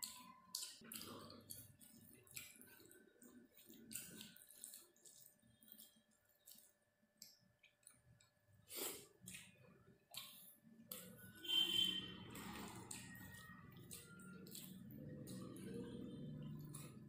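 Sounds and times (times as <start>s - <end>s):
fingers squishing rice: 0.0s - 17.0s.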